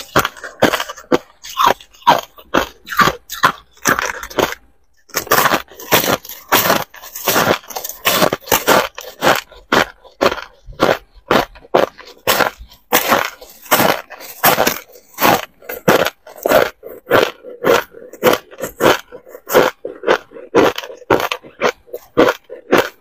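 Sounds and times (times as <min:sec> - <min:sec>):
ice crunching while chewed: 0:00.0 - 0:23.0.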